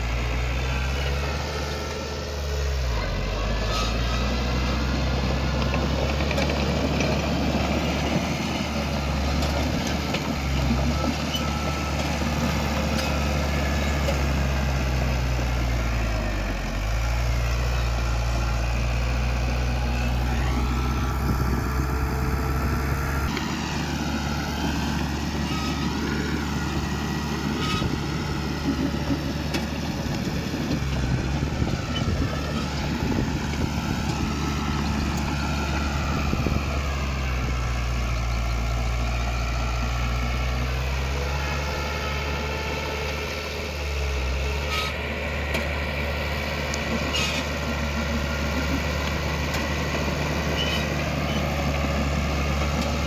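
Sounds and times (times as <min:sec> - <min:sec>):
heavy machinery diesel engine running: 0:00.0 - 0:53.0.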